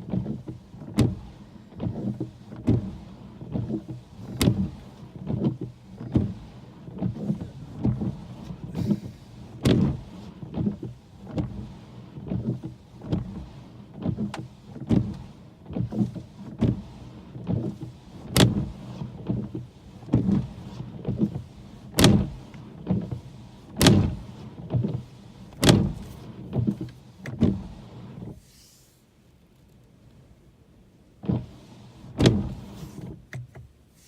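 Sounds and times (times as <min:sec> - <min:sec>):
windshield wipers swishing: 0:00.0 - 0:34.0.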